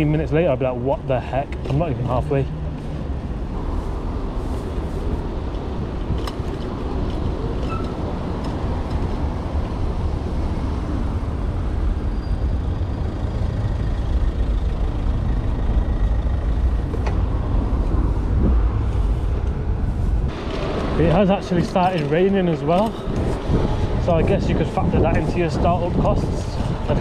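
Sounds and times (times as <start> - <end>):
road noise: 0.0 - 27.0
wind noise: 1.6 - 27.0.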